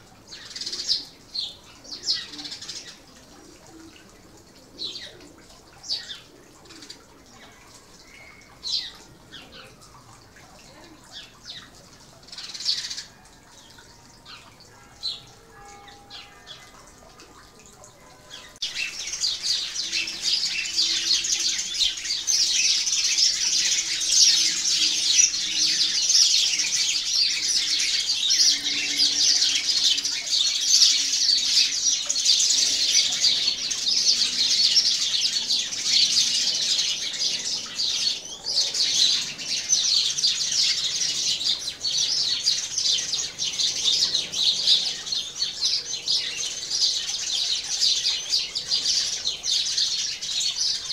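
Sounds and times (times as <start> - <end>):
sparrows chirping: 0.0 - 50.9.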